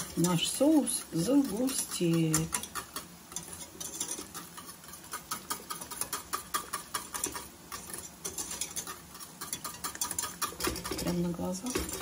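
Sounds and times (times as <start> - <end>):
whisk scraping metal saucepan: 0.0 - 12.0.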